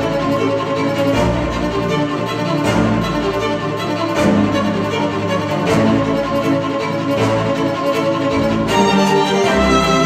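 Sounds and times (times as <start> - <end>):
cinematic orchestral strings: 0.0 - 10.0.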